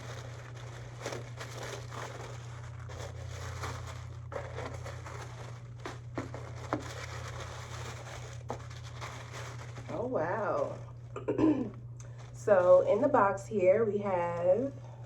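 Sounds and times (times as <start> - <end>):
paper packaging crinkling: 0.0 - 13.4.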